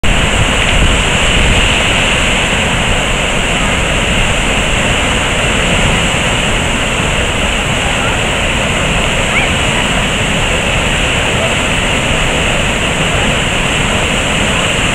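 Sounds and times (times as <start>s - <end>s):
flood water rushing: 0.0s - 14.9s.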